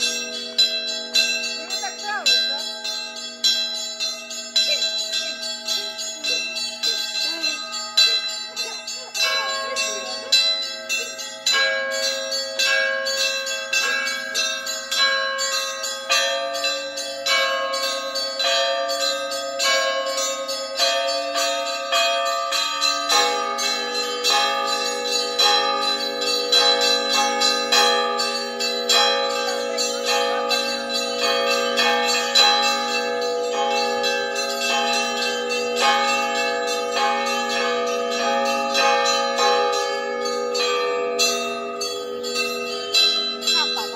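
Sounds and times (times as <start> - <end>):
lower church bells ringing: 0.0 - 43.9
small church bells struck rapidly: 0.0 - 43.9.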